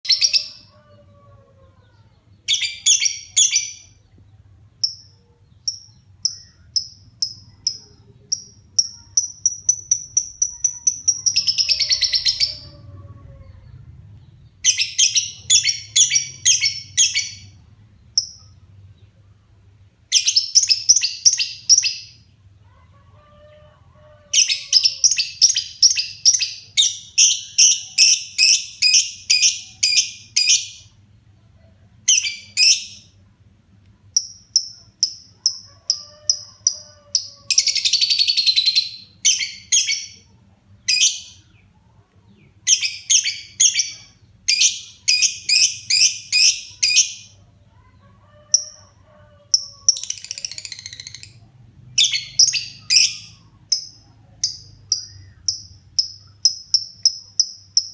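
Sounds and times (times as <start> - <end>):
bird chirping: 0.0 - 19.4, 20.1 - 23.5, 32.1 - 33.3, 34.2 - 57.9.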